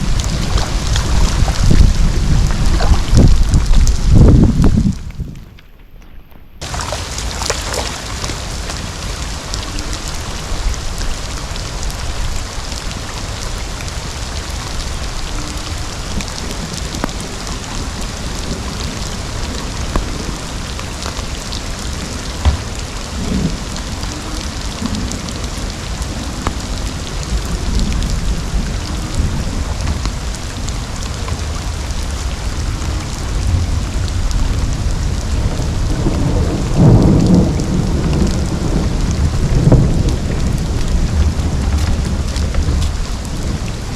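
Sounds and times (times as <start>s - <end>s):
heavy rain falling: 0.0s - 43.9s
low rumbling: 0.0s - 43.9s.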